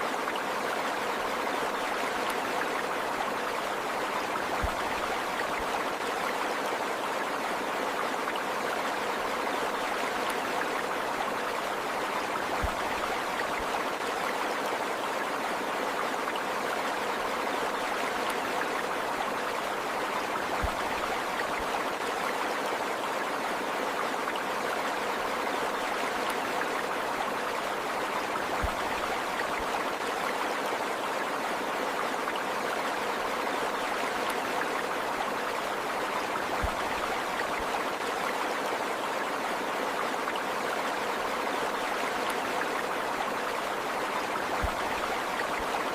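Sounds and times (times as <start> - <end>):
running water: 0.0 - 45.9.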